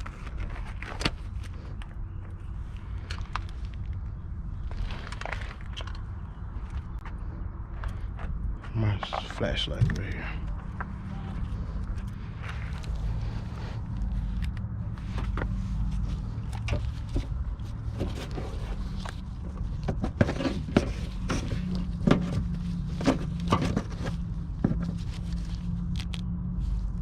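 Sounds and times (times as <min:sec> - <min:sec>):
low rumble: 0:00.0 - 0:27.0.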